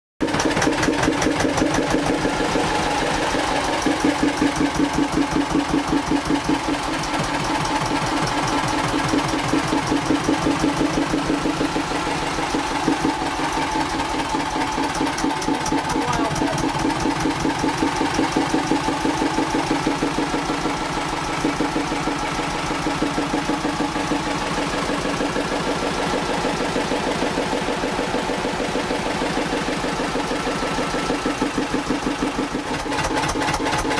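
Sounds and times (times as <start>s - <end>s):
boat engine idling: 0.2s - 33.9s.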